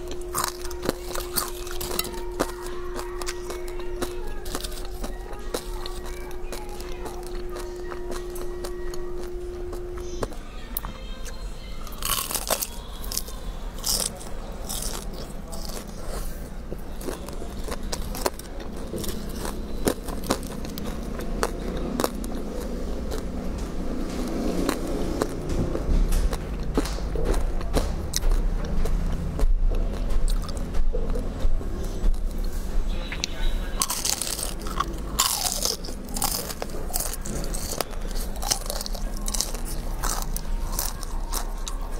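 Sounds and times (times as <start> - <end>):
chewing crunchy fried food: 0.0 - 41.9.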